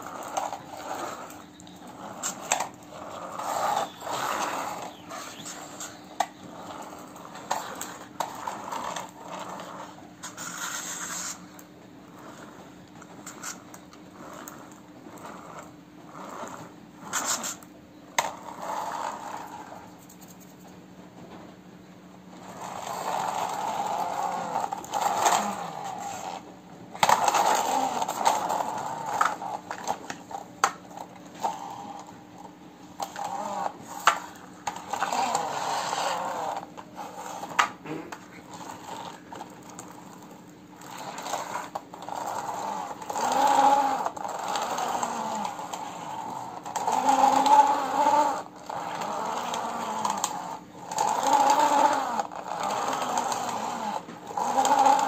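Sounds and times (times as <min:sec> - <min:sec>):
toy truck wheels whirring: 0:00.0 - 0:20.7, 0:22.2 - 0:55.0.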